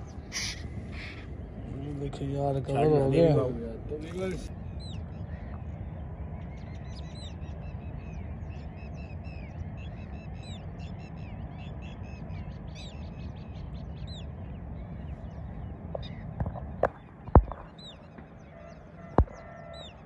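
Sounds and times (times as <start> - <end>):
birds calling: 0.0 - 20.0
low steady rumble: 0.0 - 20.0.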